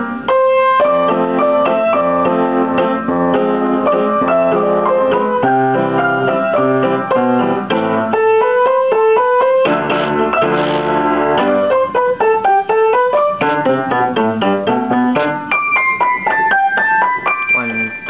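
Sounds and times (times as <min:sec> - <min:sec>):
piano duet: 0:00.0 - 0:18.0.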